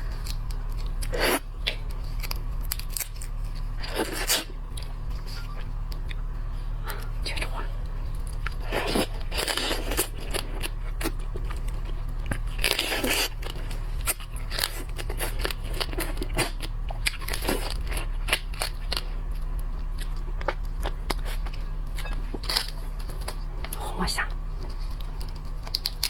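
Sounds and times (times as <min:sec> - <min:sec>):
chewing: 0:00.0 - 0:26.0
shellfish shell crunching: 0:00.0 - 0:26.0.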